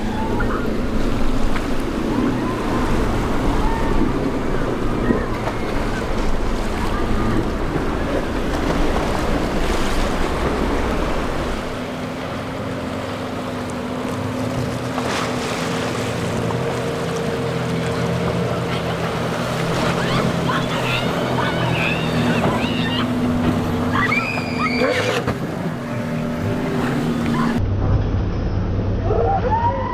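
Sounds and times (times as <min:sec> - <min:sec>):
outboard boat engine: 0:00.0 - 0:29.9
waves and spray: 0:00.0 - 0:29.9.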